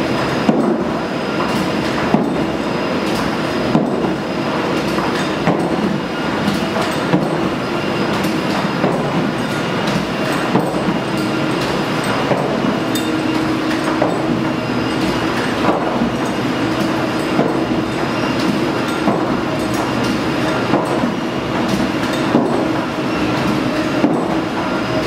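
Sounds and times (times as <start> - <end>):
treadmill belt running: 0.0 - 25.0.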